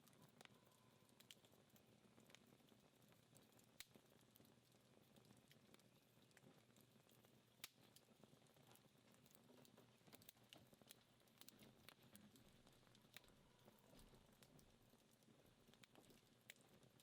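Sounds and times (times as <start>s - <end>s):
faint wood fire crackling: 0.0s - 17.0s.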